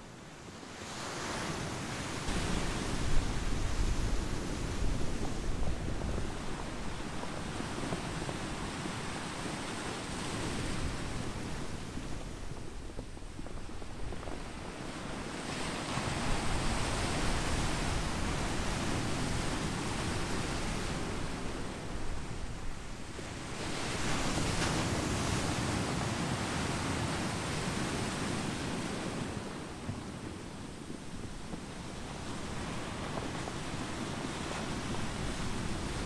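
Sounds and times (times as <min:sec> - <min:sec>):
surf washing over pebbles: 0:00.8 - 0:36.0.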